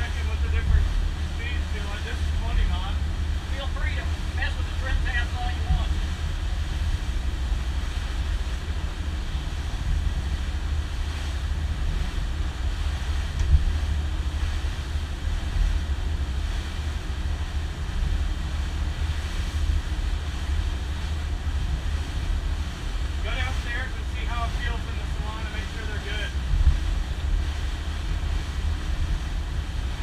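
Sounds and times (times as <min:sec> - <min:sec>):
motorboat engine rumble: 0:00.0 - 0:30.0
wind buffeting microphone: 0:00.0 - 0:30.0.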